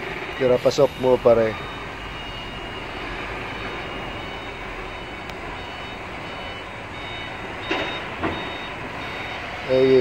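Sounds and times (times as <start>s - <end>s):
truck engine running: 0.0s - 10.0s
truck reversing alarm beeping: 0.0s - 10.0s.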